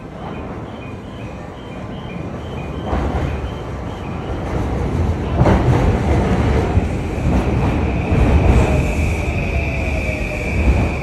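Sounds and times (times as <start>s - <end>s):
electric train wheels rumbling: 0.0s - 11.0s.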